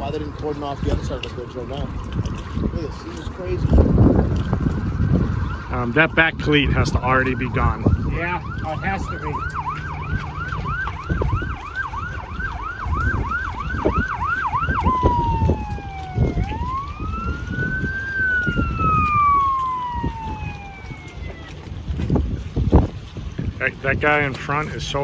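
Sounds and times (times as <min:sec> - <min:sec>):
emergency vehicle siren: 0:00.0 - 0:22.5.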